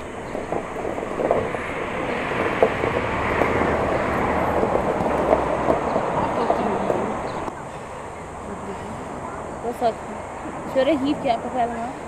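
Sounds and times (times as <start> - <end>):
vehicle rushing noise: 0.0 - 11.3.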